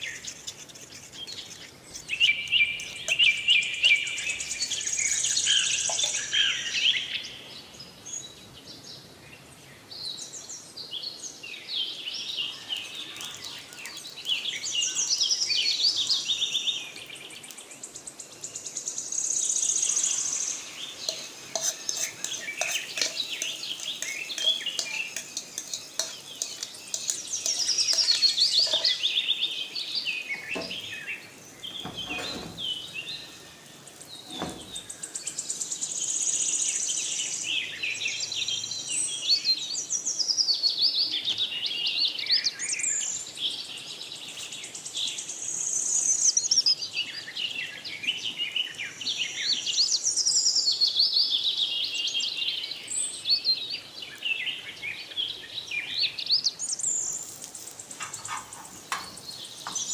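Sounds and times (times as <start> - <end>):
birds chirping and singing: 0.0 - 9.1, 9.8 - 59.9.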